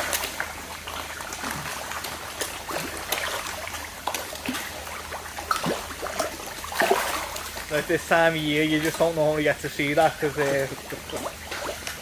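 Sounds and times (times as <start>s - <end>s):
fish splashing and slurping: 0.0s - 12.0s
water trickling: 0.0s - 12.0s.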